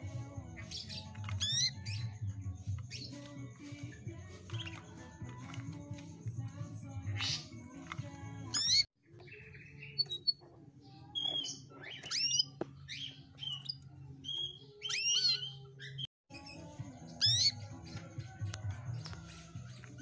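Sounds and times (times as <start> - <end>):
canary chirping and whistling: 0.0 - 6.0, 6.9 - 20.0.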